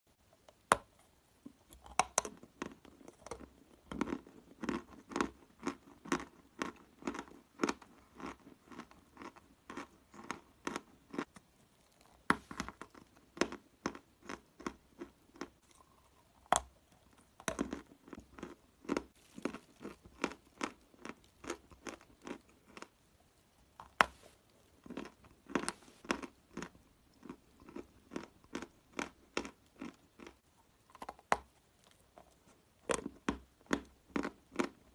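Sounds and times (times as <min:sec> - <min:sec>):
chalk crunching while chewed: 0:01.8 - 0:23.0, 0:23.8 - 0:34.8.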